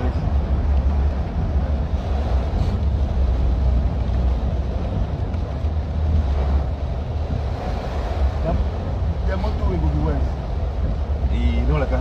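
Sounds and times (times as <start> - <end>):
vehicle rumbling through water: 0.0 - 12.0.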